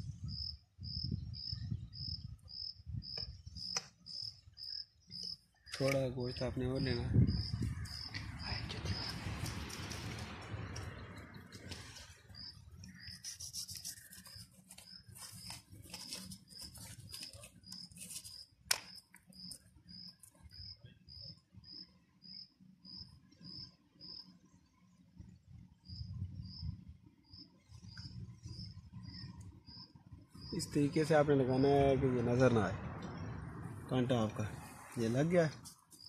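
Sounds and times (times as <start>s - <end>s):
insect chirping: 0.1s - 11.4s, 12.2s - 24.5s, 25.8s - 31.9s.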